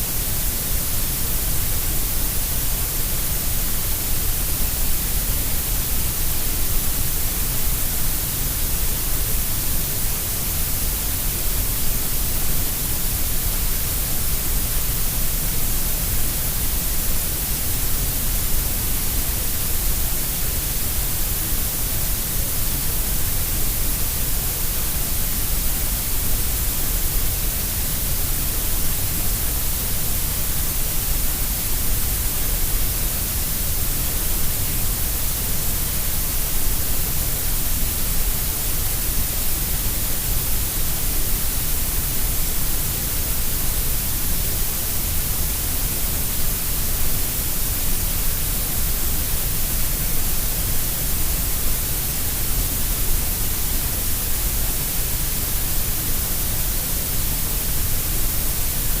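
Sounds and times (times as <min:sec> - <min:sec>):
steady grey noise hiss: 0:00.0 - 0:59.0.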